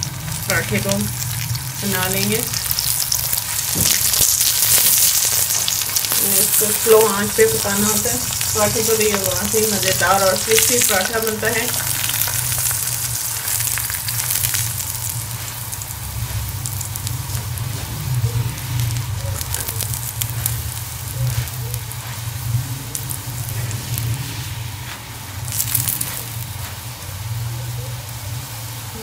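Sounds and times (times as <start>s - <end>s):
flatbread sizzling in ghee: 0.0s - 29.0s
low steady hum: 0.0s - 29.0s.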